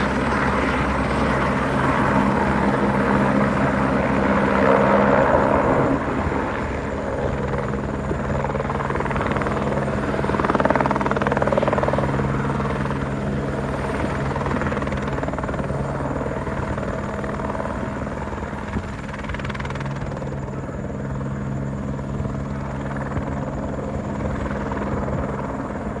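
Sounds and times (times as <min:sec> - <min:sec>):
helicopter rotor and turbine drone: 0:00.0 - 0:26.0.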